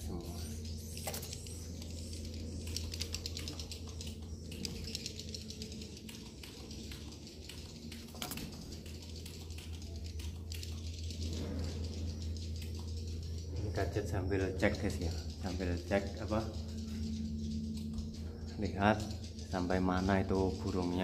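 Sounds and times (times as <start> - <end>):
steady low hum: 0.0 - 21.0
swiftlets clicking and chattering: 0.0 - 21.0.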